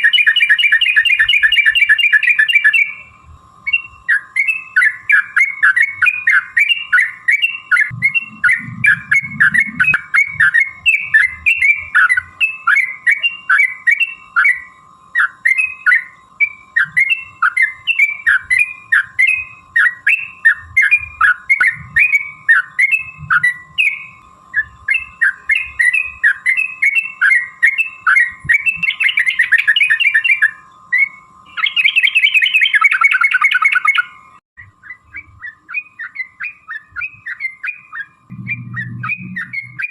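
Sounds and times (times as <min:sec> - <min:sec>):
bird rattling trills: 0:00.0 - 0:03.0, 0:03.6 - 0:39.9
bulbul singing whistled notes: 0:00.0 - 0:39.9.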